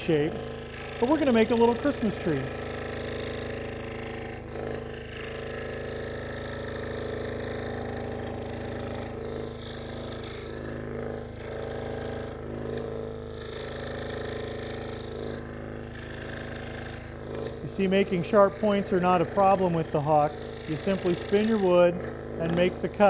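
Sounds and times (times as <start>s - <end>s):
scroll saw cutting wood: 0.0s - 23.0s.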